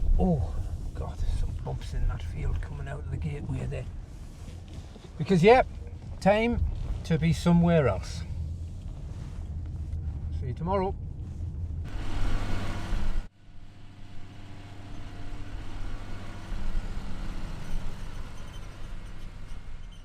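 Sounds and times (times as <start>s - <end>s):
farm machinery engine humming: 0.0s - 20.0s.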